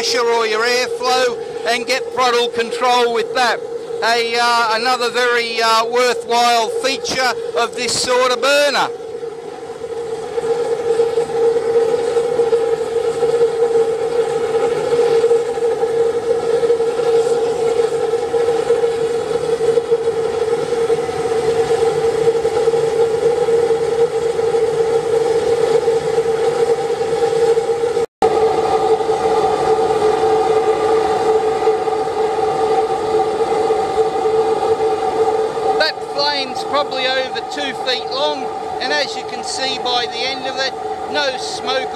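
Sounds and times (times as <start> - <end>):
oil burner roaring with humming tone: 0.0 - 41.9.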